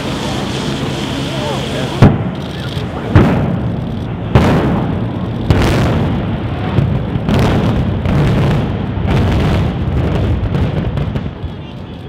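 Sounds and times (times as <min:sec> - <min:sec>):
sharp demolition blasts: 0:00.0 - 0:11.6
heavy rumble: 0:00.0 - 0:12.0.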